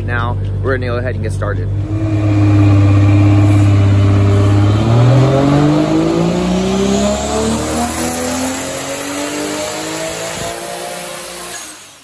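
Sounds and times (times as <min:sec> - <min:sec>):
car engine revving on dyno: 0:01.7 - 0:12.0.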